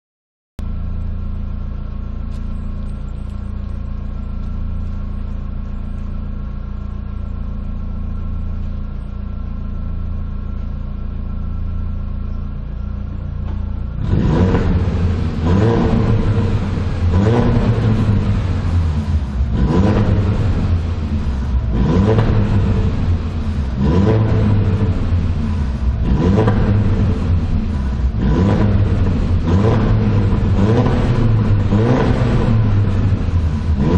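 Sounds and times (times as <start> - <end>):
car engine idling and revving: 0.6 - 33.9.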